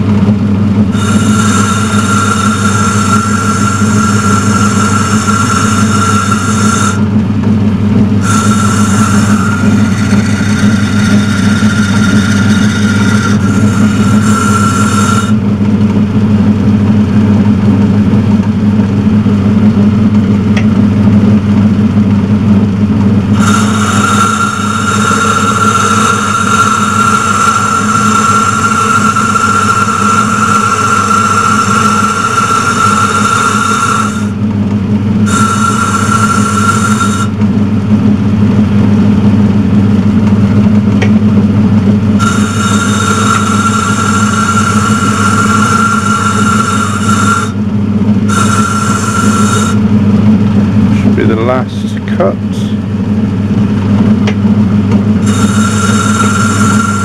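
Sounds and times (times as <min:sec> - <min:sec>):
high whine of boring cut: 0:00.0 - 0:57.0
metal lathe humming: 0:00.0 - 0:57.0.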